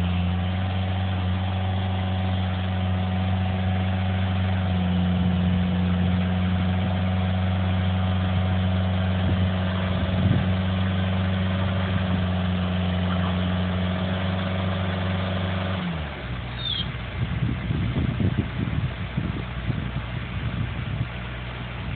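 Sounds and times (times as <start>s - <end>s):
heavy machine engine idling: 0.0s - 21.9s.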